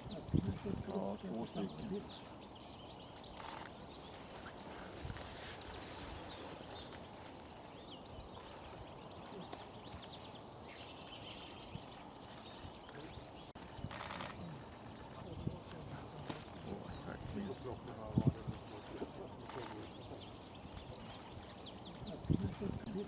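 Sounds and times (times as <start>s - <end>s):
small birds calling: 0.0s - 23.0s
steady outdoor hiss: 0.0s - 23.0s.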